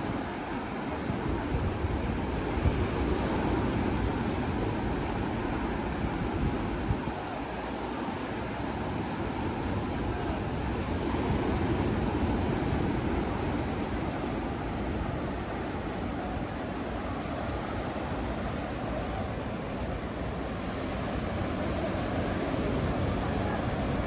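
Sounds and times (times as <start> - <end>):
ocean surf washing on beach: 0.0 - 24.0
wind buffeting microphone: 0.0 - 24.0.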